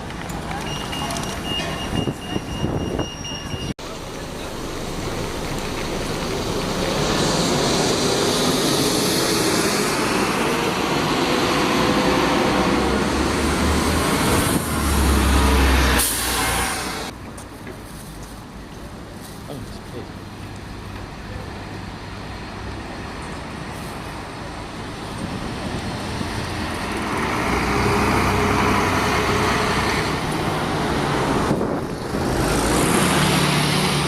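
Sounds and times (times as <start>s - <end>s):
large vehicle rumble: 0.0s - 34.0s.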